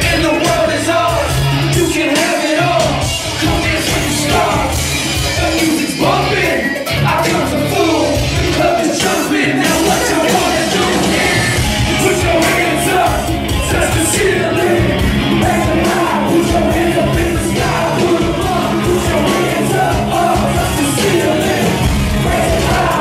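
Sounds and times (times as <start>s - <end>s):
loud bass-heavy beat: 0.0s - 23.0s
rappers shouting into microphones: 0.0s - 23.0s.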